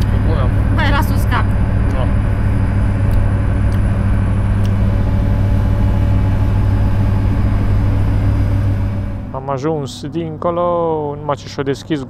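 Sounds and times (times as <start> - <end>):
ferry engines droning: 0.0 - 11.8.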